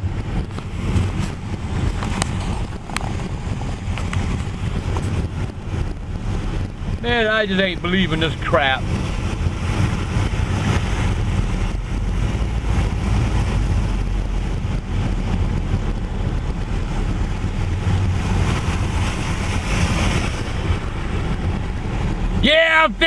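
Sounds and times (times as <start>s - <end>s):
car driving on wet road: 0.0s - 23.0s
wind and rain hiss: 0.0s - 23.0s.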